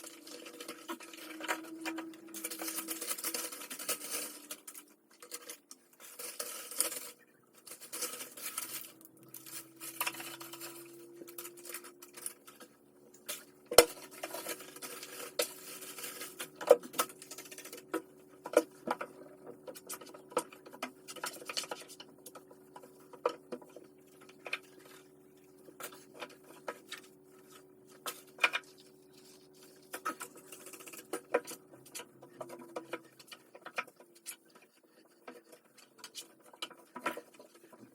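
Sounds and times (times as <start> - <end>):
appliance humming: 0.0 - 37.9.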